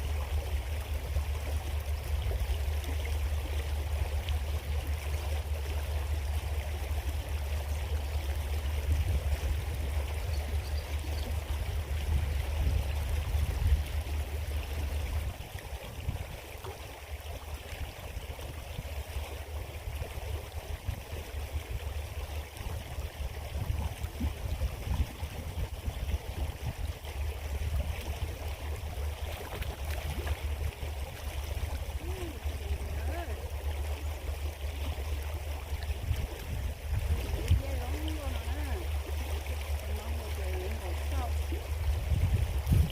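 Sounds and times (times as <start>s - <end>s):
creek flowing over stones: 0.0s - 42.9s
heavy low rumble: 0.0s - 42.9s.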